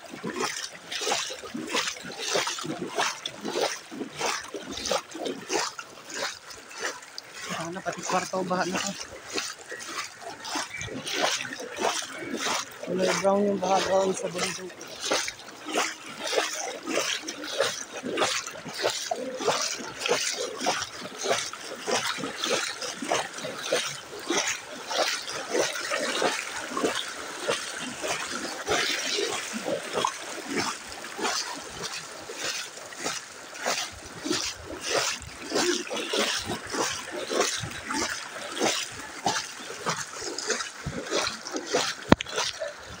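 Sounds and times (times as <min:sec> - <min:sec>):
footsteps splashing through water: 0:00.0 - 0:43.0.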